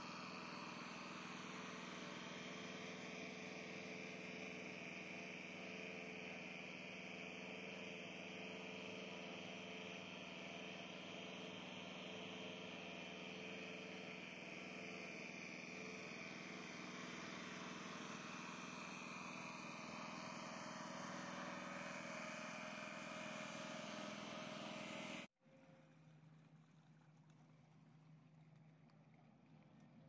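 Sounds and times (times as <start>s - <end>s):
water pump engine running: 0.0s - 30.0s.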